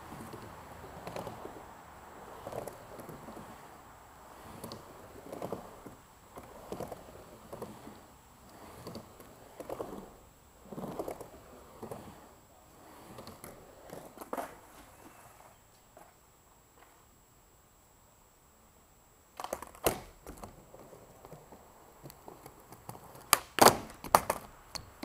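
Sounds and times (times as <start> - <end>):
skateboard clacks: 0.0 - 16.2, 19.4 - 25.0
skateboard wheels rolling on concrete: 0.0 - 25.0.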